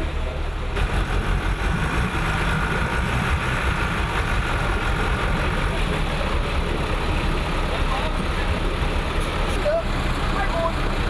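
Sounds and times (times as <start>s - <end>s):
diesel truck engine under load: 0.0s - 11.0s
wheel churning muddy water: 0.0s - 11.0s.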